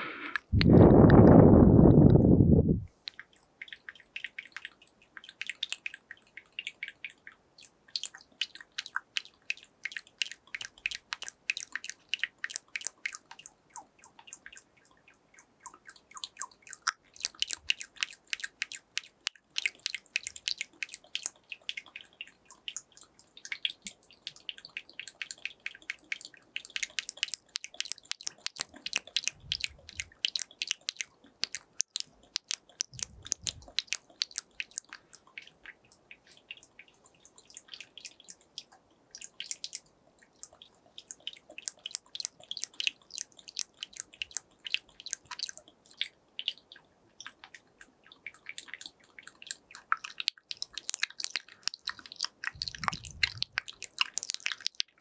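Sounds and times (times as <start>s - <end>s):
tongue clicks and lip smacks: 0.0s - 55.0s.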